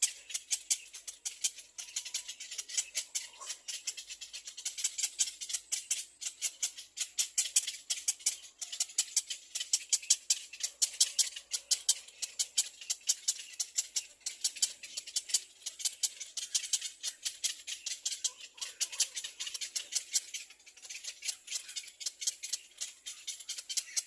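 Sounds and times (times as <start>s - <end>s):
nestling birds chirping: 0.0s - 24.0s.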